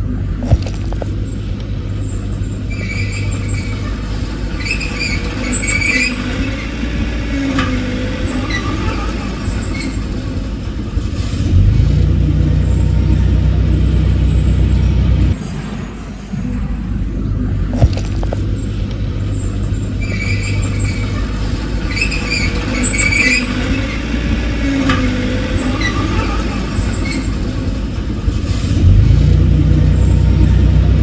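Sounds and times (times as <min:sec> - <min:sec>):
diesel machinery engine droning: 0:00.0 - 0:31.0
high metallic squeals: 0:00.0 - 0:31.0.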